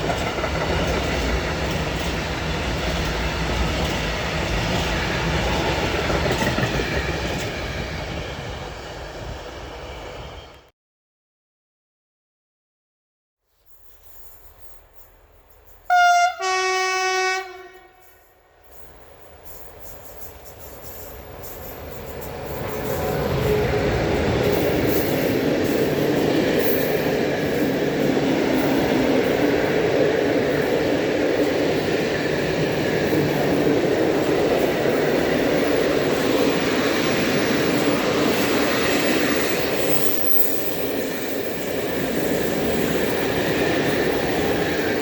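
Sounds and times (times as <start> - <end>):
train wheels rumbling on rail: 0.0 - 10.7, 13.9 - 45.0.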